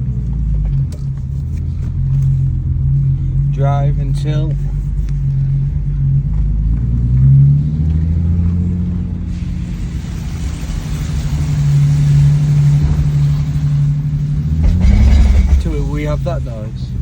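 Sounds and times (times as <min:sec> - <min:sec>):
car engine droning: 0:00.0 - 0:17.0
road and drivetrain hiss: 0:00.0 - 0:17.0.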